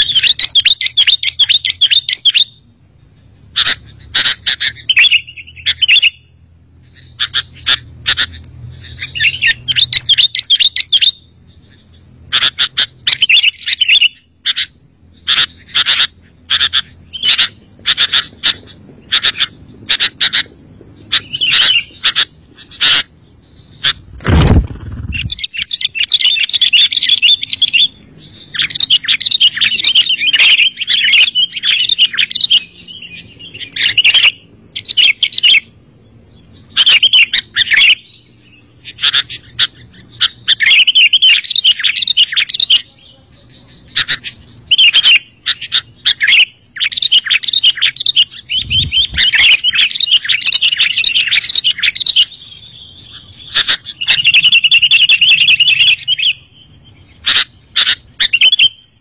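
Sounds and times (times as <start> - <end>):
bird twittering song: 0.0 - 59.0.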